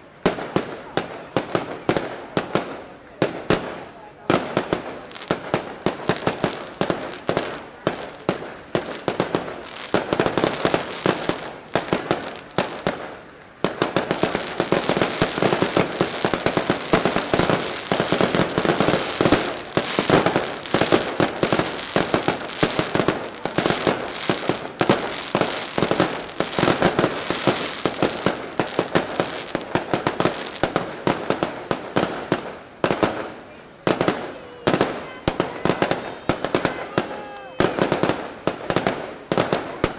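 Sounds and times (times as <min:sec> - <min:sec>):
firecracker bangs: 0:00.3 - 0:39.9.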